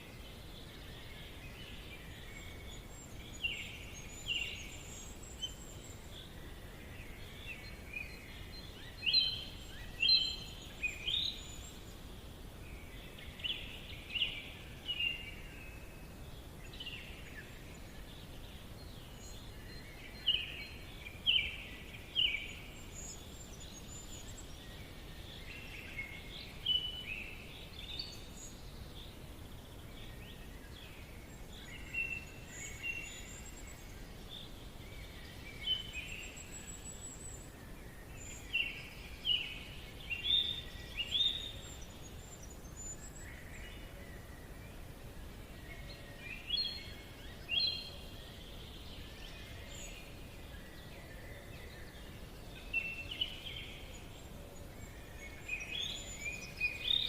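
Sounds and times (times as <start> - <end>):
background hiss: 0.0 - 57.0
birds chirping and trilling: 0.0 - 57.0.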